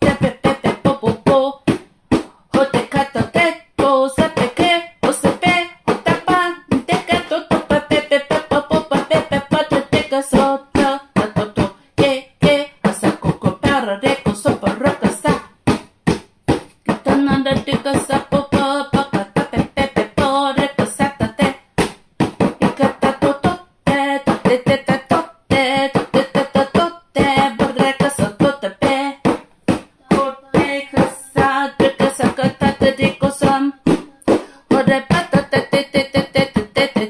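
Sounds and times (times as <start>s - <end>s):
person chanting rapid syllables: 0.0s - 15.6s, 16.8s - 21.6s, 22.6s - 37.0s.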